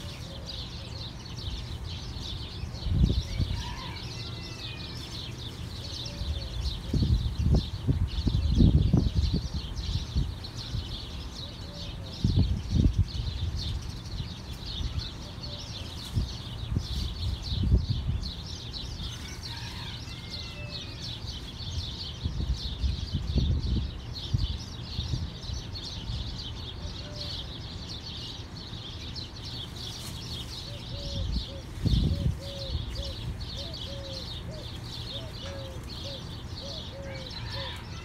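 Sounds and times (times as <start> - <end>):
small birds chirping: 0.0 - 38.0
sweeping bird calls: 0.0 - 38.0
low rumbling wind gusts: 0.9 - 28.0, 30.7 - 38.0.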